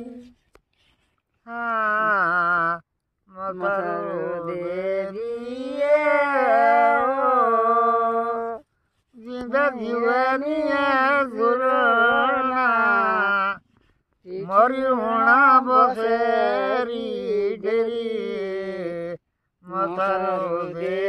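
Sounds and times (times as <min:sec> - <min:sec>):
person singing folk song: 0:00.0 - 0:00.5, 0:01.4 - 0:21.0.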